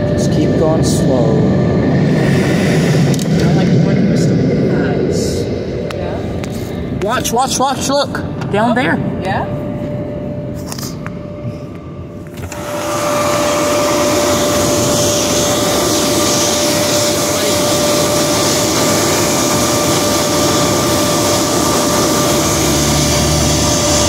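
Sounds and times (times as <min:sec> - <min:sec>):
blower wheels whining: 0:00.0 - 0:24.0
dryer blowers rushing air: 0:00.0 - 0:24.0.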